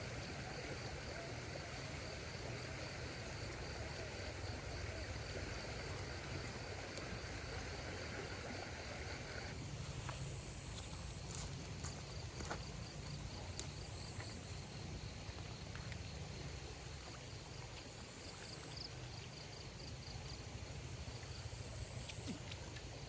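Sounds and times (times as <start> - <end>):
faint insect chirping: 0.0 - 23.0.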